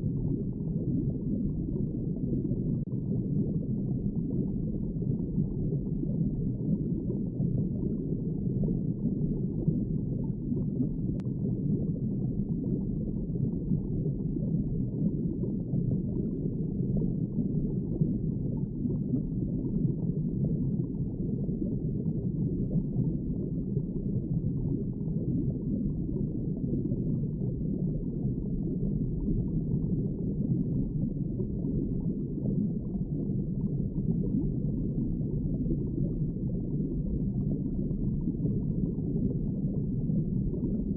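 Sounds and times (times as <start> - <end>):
underwater rumbling water: 0.0 - 40.9.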